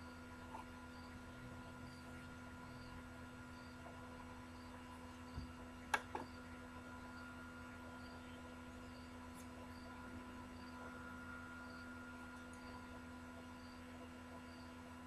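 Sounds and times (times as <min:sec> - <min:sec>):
faint steady tones: 0:00.0 - 0:15.0
low electrical hum: 0:00.0 - 0:15.0.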